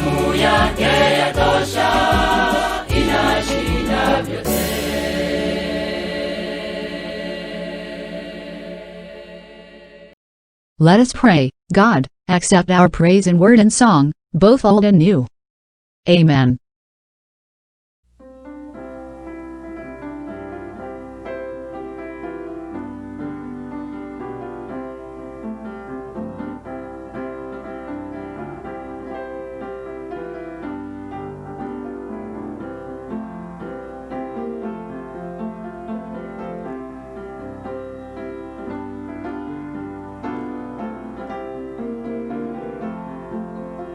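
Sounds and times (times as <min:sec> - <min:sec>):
piano music: 0:00.0 - 0:10.2, 0:18.2 - 0:43.9.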